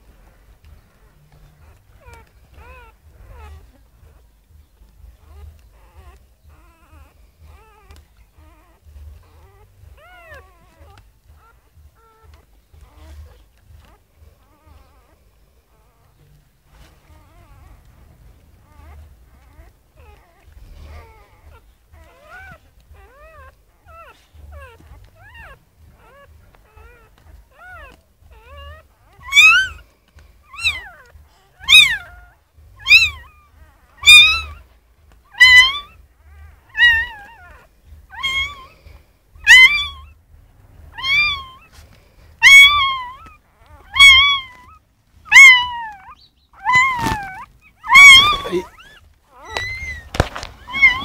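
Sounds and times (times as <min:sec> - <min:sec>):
puppy crying: 0:00.1 - 0:51.0.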